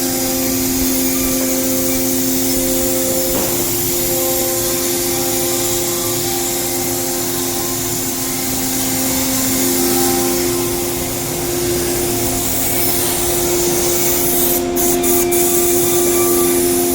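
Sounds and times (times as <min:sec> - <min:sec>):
router spindle whine: 0:00.0 - 0:16.9.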